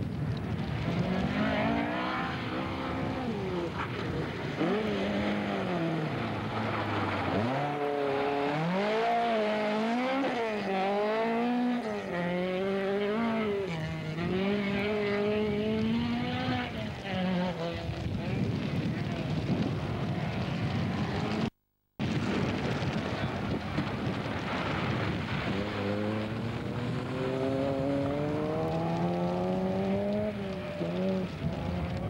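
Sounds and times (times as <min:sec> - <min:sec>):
rally car engine revving: 0:00.4 - 0:21.5, 0:23.8 - 0:32.0.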